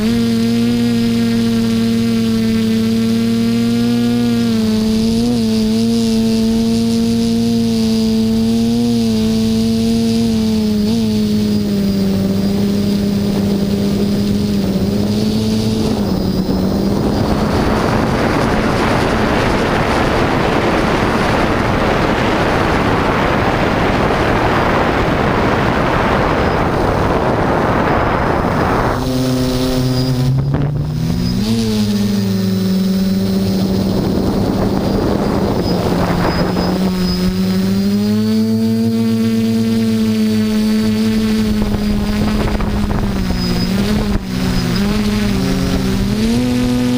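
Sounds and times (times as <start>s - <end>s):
quadcopter propellers humming: 0.0s - 46.9s
wind rushing over microphone: 0.0s - 46.9s.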